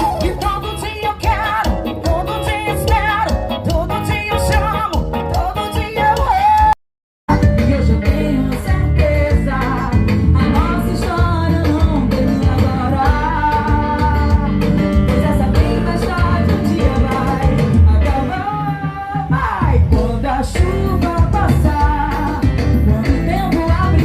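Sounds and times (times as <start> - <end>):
song with band accompaniment: 0.0 - 24.0.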